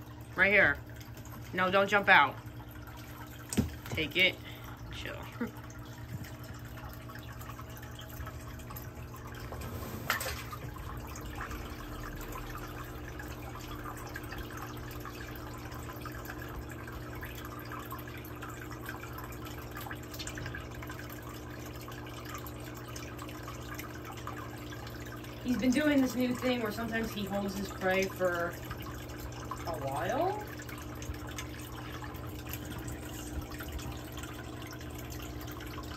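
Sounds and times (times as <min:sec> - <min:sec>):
low steady hum: 0:00.0 - 0:35.9
water trickling into pond: 0:00.0 - 0:35.9.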